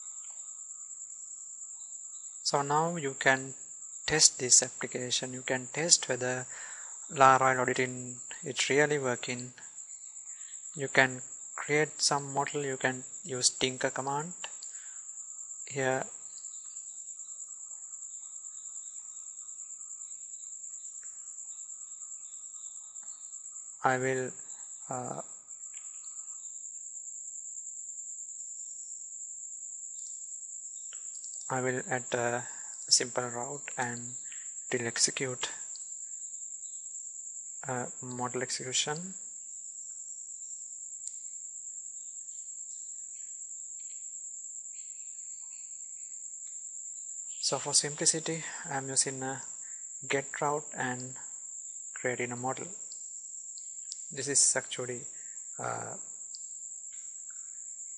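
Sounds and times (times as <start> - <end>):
faint background hiss: 0.0 - 57.9.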